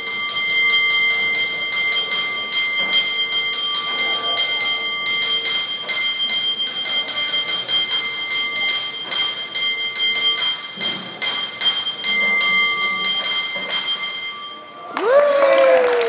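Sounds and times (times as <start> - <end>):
cable car bell ringing: 0.0 - 15.6.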